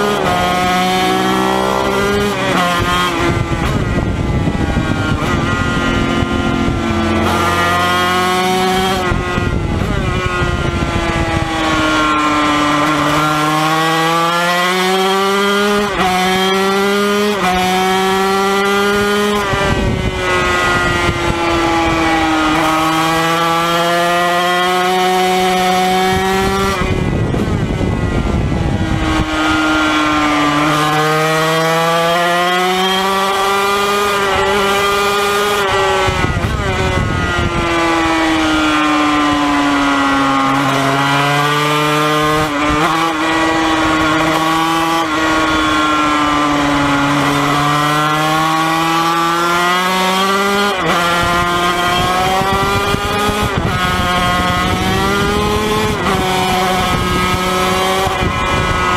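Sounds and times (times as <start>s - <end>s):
racing motorcycle revving: 0.0s - 58.9s.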